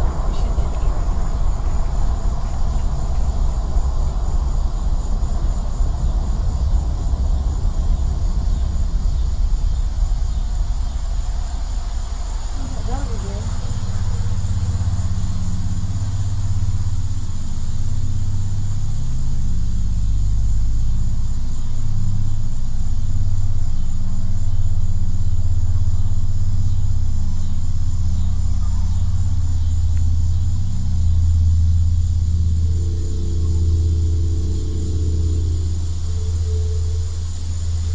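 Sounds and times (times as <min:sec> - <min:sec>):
low droning rumble: 0:00.0 - 0:37.9
steady hum: 0:00.0 - 0:37.9.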